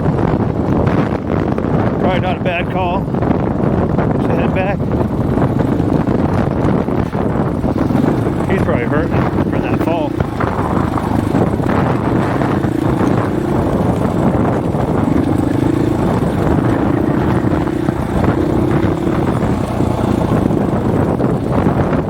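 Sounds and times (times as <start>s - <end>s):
dirt bike engine: 0.0s - 22.0s
wind buffeting microphone: 0.0s - 22.0s.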